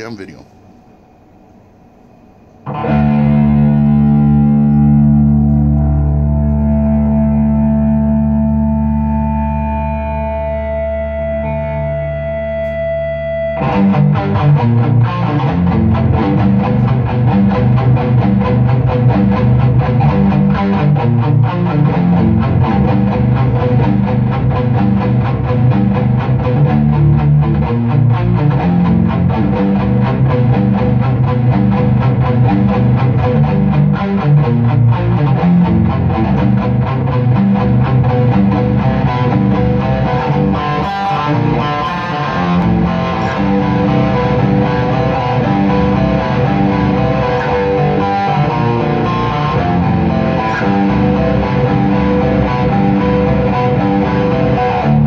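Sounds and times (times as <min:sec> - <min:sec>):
electric guitar riffs: 0:02.2 - 0:55.0.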